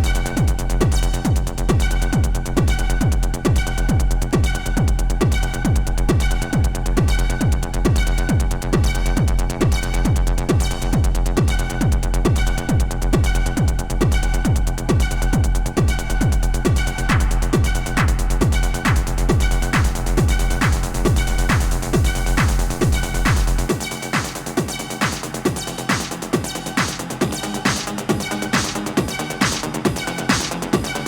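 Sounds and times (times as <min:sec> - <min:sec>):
kick drum beat: 0:00.0 - 0:31.0
ticking hi-hats: 0:00.0 - 0:31.0.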